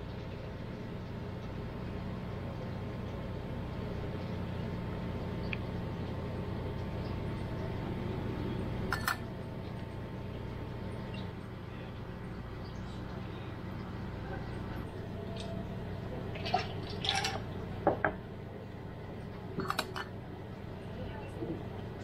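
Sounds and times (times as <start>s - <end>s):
low machine hum: 0.0s - 22.0s
thin steady whine: 0.0s - 22.0s.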